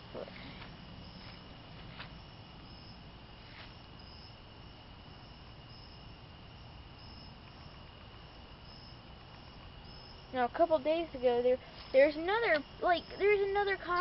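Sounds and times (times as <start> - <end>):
insect chirp: 0.0 - 14.0
insects trilling: 0.0 - 14.0.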